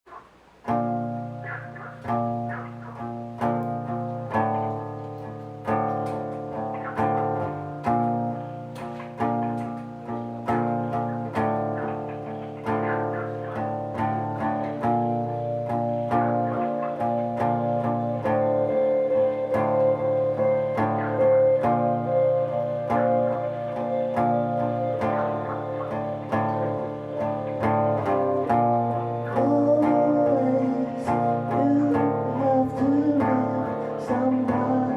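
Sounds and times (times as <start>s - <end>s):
plucked guitar chords: 0.1s - 34.9s.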